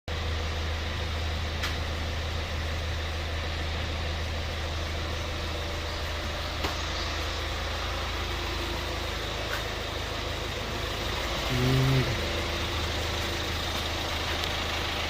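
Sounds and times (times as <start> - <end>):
car engine idling: 0.1 - 15.0.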